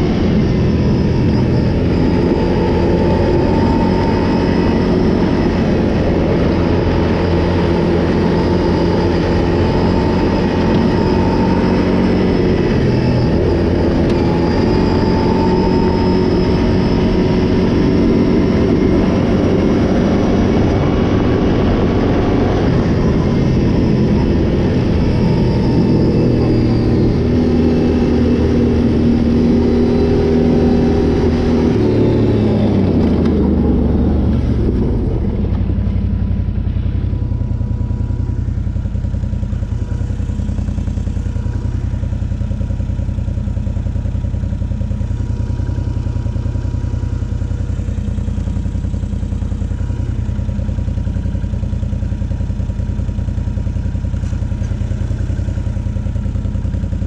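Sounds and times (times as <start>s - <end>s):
atv engine running and idling: 0.0s - 57.0s.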